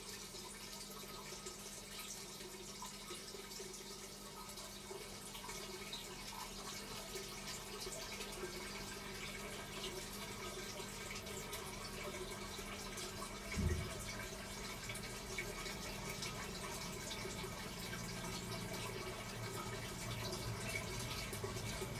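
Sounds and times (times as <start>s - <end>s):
water trickling through pipes: 0.0s - 21.9s.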